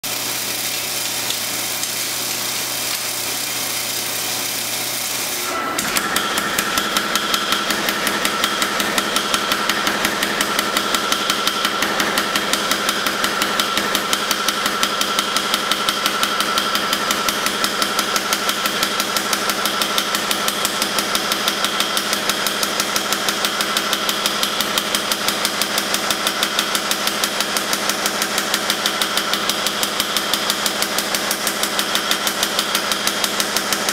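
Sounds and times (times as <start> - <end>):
power hammer pounding steel: 5.4 - 33.9.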